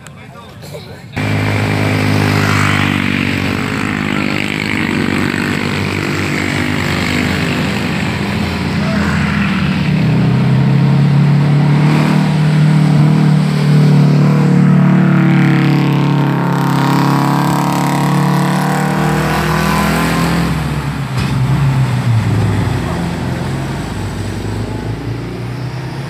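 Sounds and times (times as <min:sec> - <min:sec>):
diesel truck engine under load: 0:01.2 - 0:26.0.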